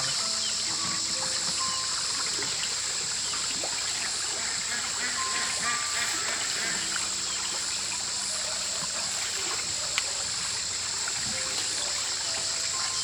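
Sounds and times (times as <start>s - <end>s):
faint soft music notes: 0.0s - 13.0s
high-pitched outdoor hiss: 0.0s - 13.0s.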